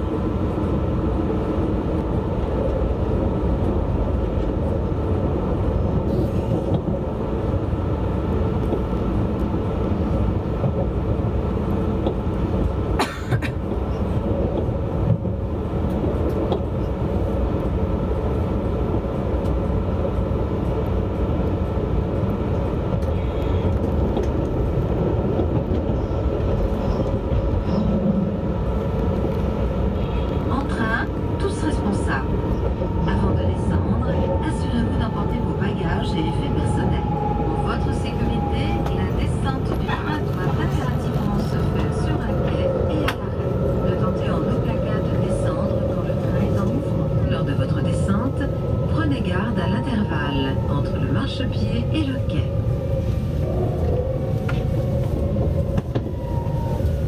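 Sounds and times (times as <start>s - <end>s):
train rumble with tonal hum: 0.0s - 57.0s.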